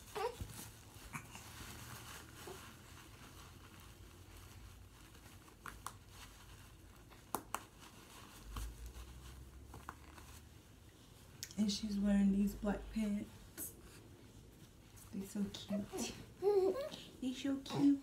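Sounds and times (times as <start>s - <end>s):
clothes rustling and crinkling: 0.0s - 18.0s.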